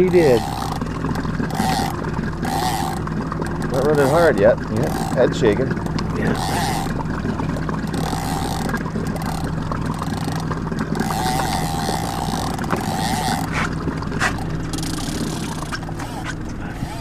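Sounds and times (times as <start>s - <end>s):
boat motor running: 0.0s - 17.0s
wavering whine: 0.0s - 17.0s.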